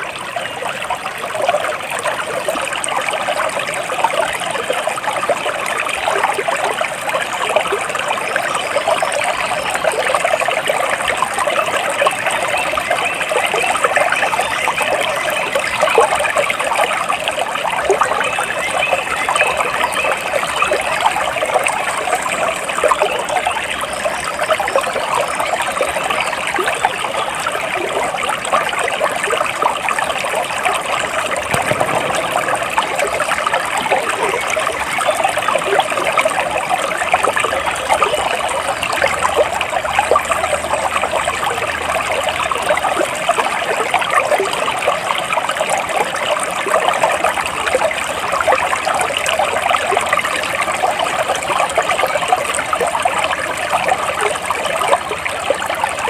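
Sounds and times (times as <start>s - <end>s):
stream water trickling over stones: 0.0s - 56.0s.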